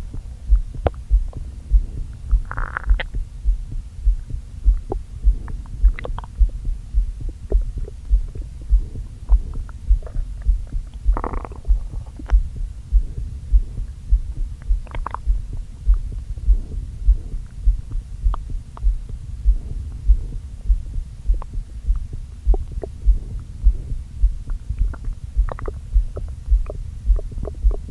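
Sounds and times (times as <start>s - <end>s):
stomach gurgles: 0.0s - 3.3s, 4.2s - 27.9s
heartbeat: 0.0s - 27.9s.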